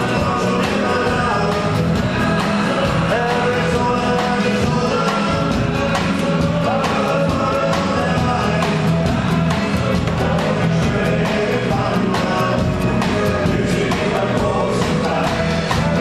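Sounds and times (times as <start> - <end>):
country band playing: 0.0 - 16.0
drum kit steady beat: 0.0 - 16.0.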